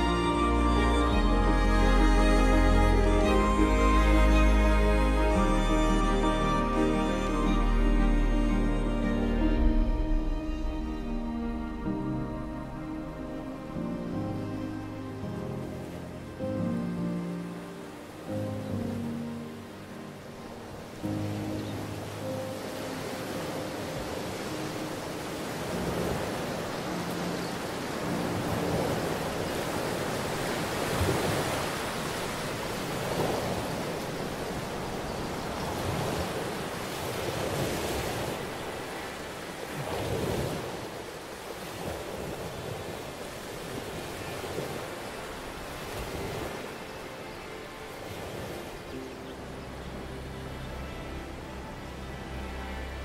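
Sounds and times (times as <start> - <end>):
faint sustained music tones: 0.0 - 53.0
ocean surf: 0.0 - 53.0.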